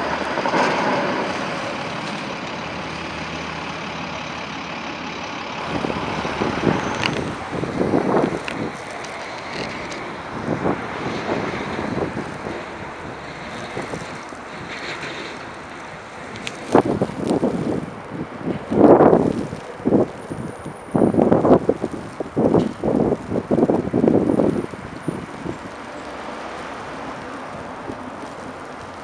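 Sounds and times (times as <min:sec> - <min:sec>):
heavy truck engine and tyres: 0:00.0 - 0:29.0.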